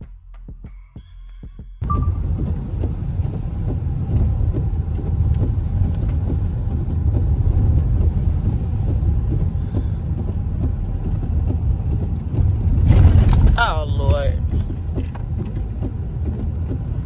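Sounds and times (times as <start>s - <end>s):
car engine and road rumble: 1.5s - 17.0s
tyres on wet road: 1.8s - 17.0s.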